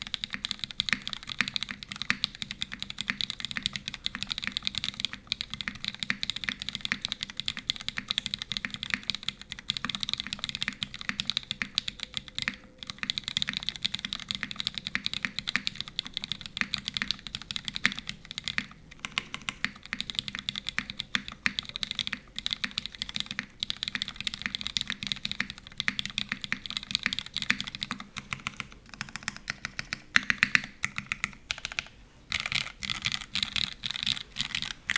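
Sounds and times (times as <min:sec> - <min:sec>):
fast typing on mechanical keyboard: 0:00.0 - 0:34.9.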